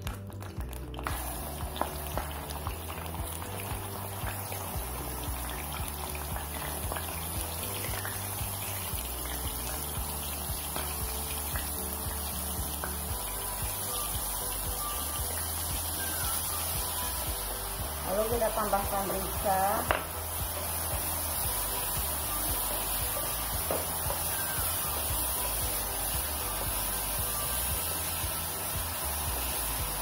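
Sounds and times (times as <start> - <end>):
background music with bass: 0.0 - 30.0
garlic sizzling in hot oil: 0.4 - 30.0.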